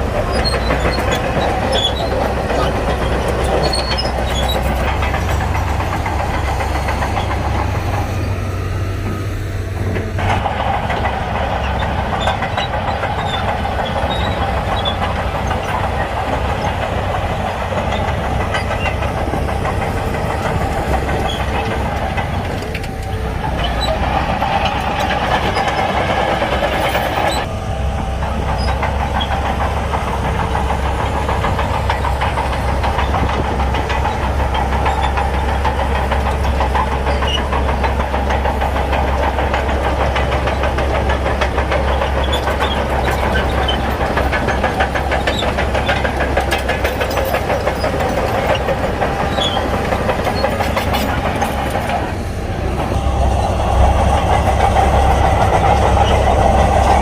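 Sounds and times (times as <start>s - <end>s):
bulldozer diesel engine working: 0.0s - 57.0s
steel tracks clanking: 0.0s - 57.0s.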